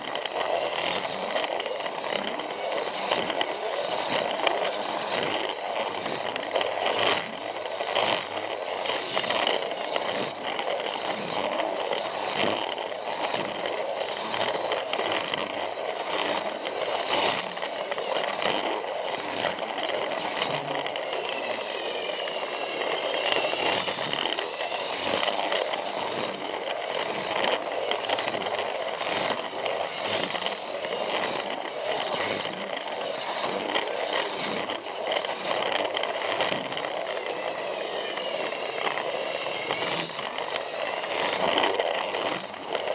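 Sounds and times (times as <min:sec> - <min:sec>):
toy train motor whirring: 0:00.0 - 0:42.9
wheels clicking over track joints: 0:00.0 - 0:42.9.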